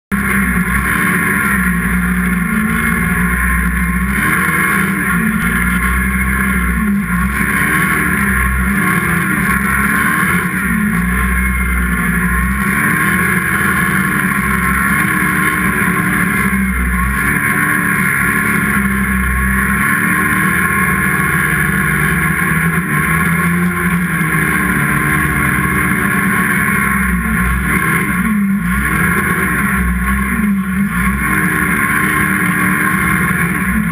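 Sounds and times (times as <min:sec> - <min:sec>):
snowmobile engine revving: 0:00.1 - 0:33.9.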